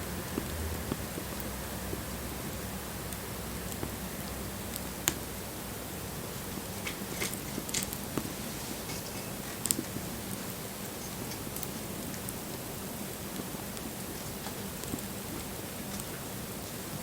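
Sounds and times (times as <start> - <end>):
wood fire crackling and hissing: 0.0 - 17.0.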